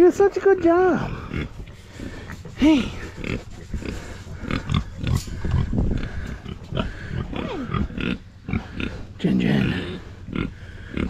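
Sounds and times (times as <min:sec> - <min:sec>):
pig grunting: 0:00.6 - 0:11.0.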